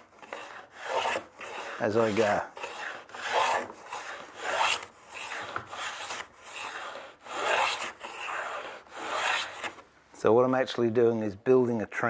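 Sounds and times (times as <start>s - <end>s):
wooden plane shaving board: 0.0s - 9.8s.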